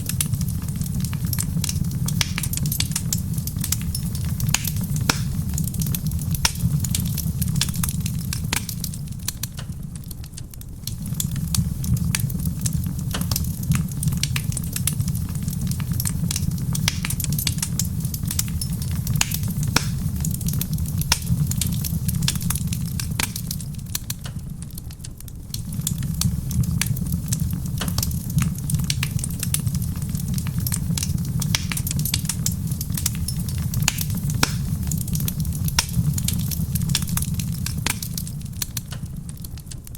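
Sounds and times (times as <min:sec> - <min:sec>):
steady low rumble: 0:00.0 - 0:39.6
soft rain on a roof: 0:00.0 - 0:39.9
wood fire crackling and popping: 0:00.0 - 0:39.9.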